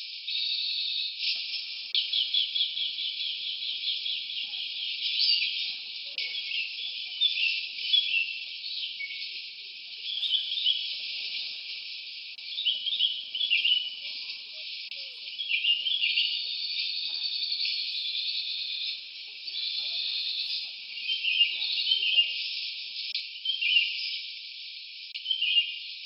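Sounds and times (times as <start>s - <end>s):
steady high hiss: 0.0s - 23.3s
small birds chirping: 0.0s - 26.0s.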